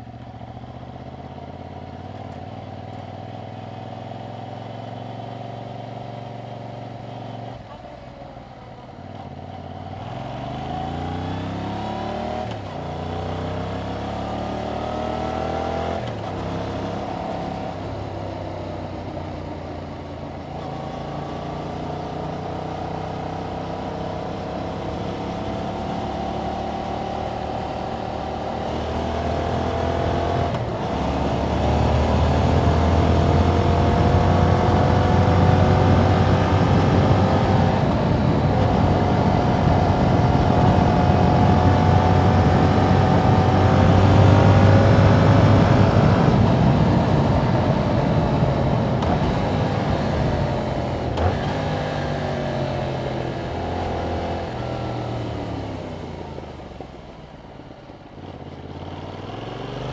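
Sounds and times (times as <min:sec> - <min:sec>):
motorcycle engine accelerating: 0:08.7 - 0:59.9.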